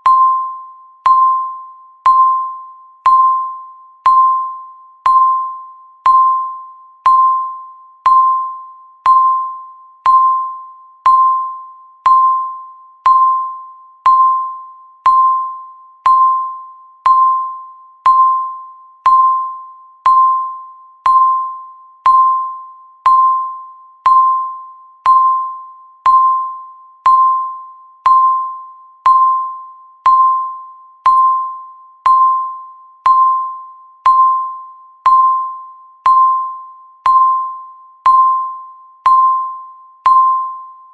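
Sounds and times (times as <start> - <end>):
timer beeping: 0.0 - 40.9.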